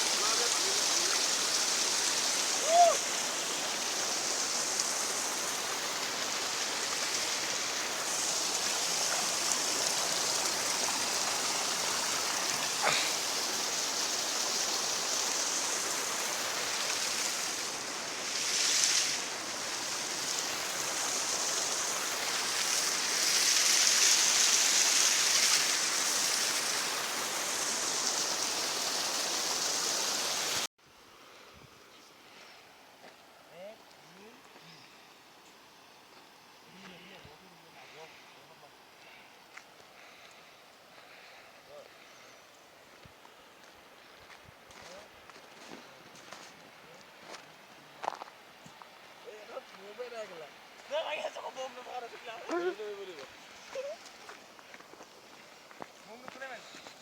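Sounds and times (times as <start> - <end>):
stream water rushing: 0.0 - 31.4, 37.4 - 57.0.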